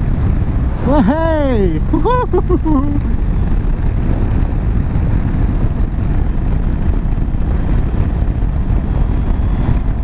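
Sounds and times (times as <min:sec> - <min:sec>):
wind rush on microphone: 0:00.0 - 0:10.0.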